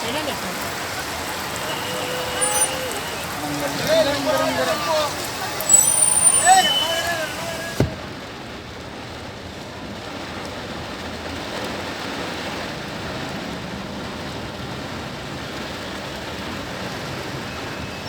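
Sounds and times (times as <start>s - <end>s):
falling water rushing: 0.0s - 18.0s.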